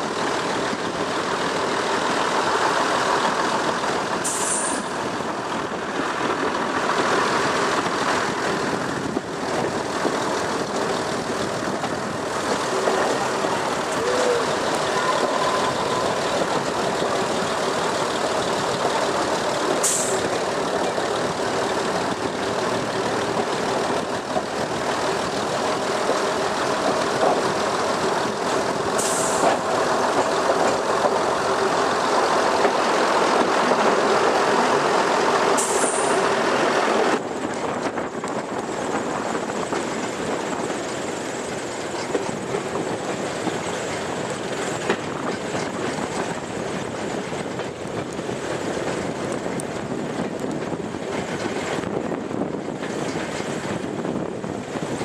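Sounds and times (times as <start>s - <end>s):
train engine hum: 0.0s - 55.0s
wheels on rails: 0.0s - 55.0s.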